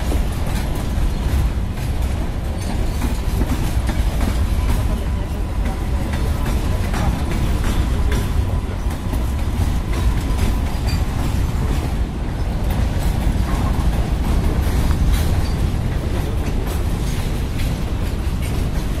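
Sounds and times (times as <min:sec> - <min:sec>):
train wheels rumbling: 0:00.0 - 0:19.0
wheels clacking over rail joints: 0:00.0 - 0:19.0.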